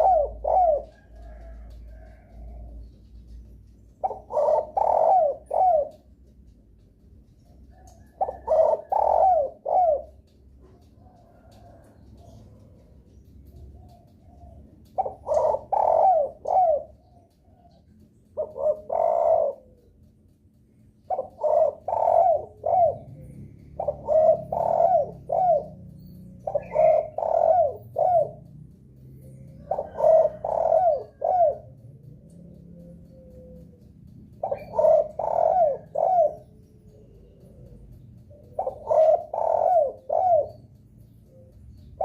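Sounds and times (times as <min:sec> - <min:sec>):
dove cooing: 0:00.0 - 0:42.0.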